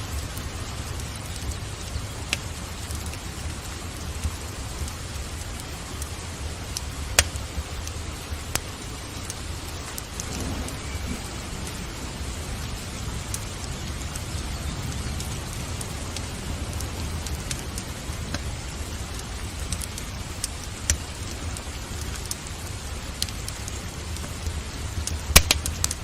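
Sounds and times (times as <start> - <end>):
distant thunder rumble: 0.0 - 26.0
steady rain: 0.0 - 26.0
wood fire crackling and popping: 0.0 - 26.0.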